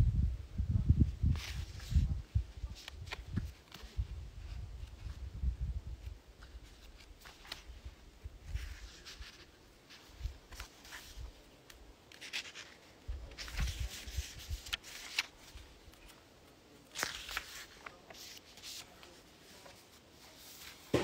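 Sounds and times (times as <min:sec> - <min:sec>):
paper rustling: 0:01.3 - 0:05.2, 0:06.0 - 0:21.0.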